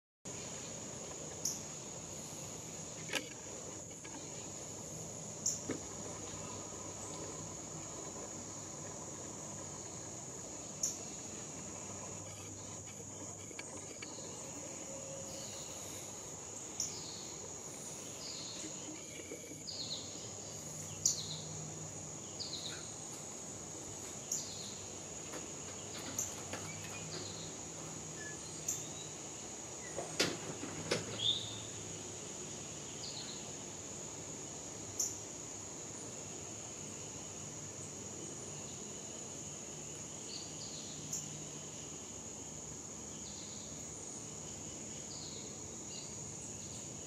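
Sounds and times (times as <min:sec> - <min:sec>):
high-pitched insect trill: 0:00.3 - 0:30.2, 0:31.2 - 0:47.0.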